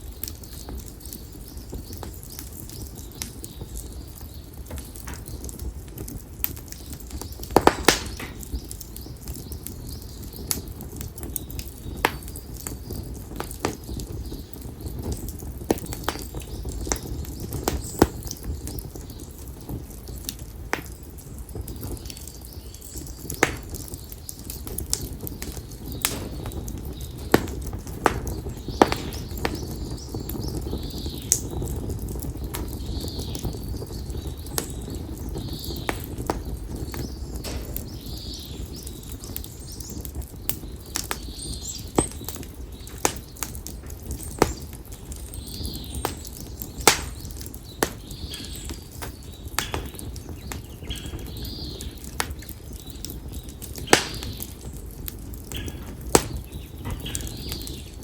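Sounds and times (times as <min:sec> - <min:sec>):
birds chirping faintly: 0:00.0 - 0:58.0
firewood crackling and popping: 0:00.0 - 0:58.0
low rush of flame: 0:00.0 - 0:58.0.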